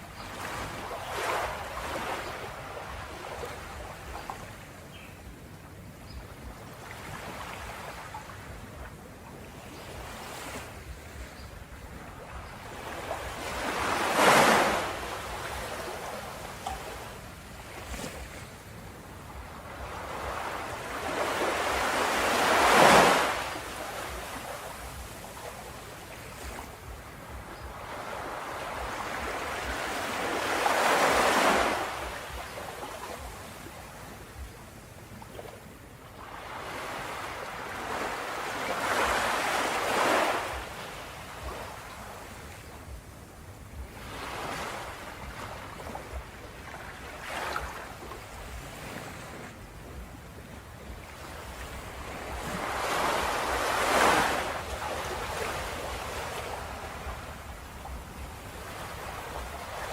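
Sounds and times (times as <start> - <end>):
waves crashing: 0.0 - 5.0, 9.7 - 59.9
surf washing: 6.6 - 59.9.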